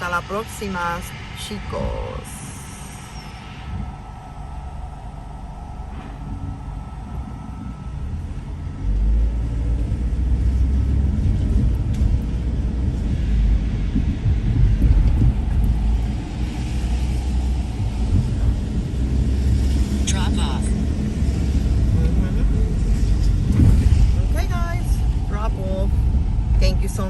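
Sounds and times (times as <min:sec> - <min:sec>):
moving vehicle rumble: 0:00.0 - 0:27.0.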